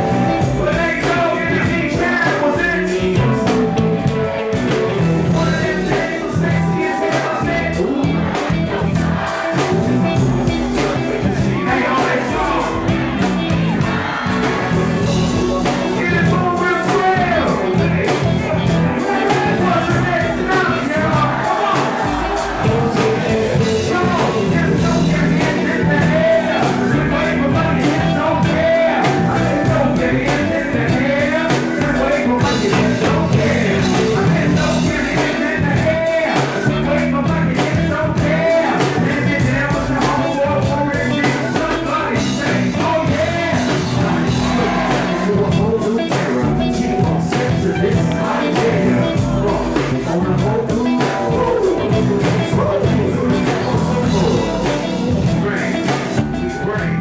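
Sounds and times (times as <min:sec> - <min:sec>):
person singing: 0:00.0 - 0:57.0
rock band playing: 0:00.0 - 0:57.0.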